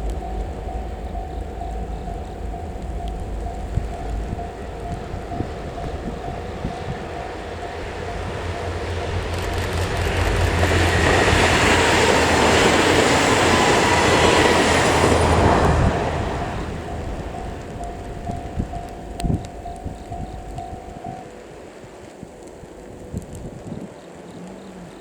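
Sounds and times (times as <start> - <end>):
high ringing from wheels: 0.0 - 23.6
train wheels on rails: 0.0 - 24.4.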